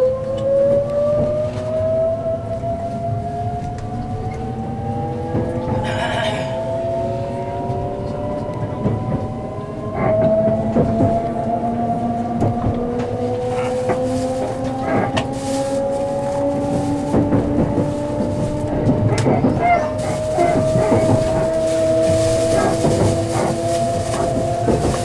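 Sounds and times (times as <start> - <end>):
train motors whining: 0.0 - 25.0.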